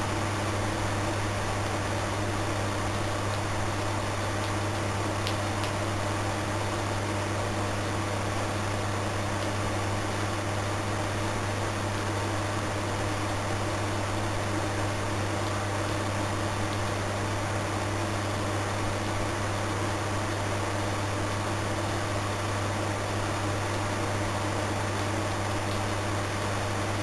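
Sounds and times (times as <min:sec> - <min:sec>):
electric fans humming: 0:00.0 - 0:27.0.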